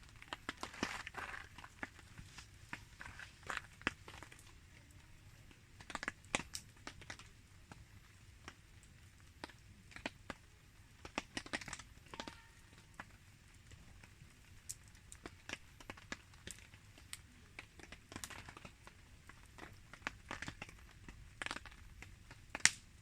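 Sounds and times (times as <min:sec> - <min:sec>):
campfire crackling: 0:00.0 - 0:23.0
sharp pops from fire: 0:00.0 - 0:23.0.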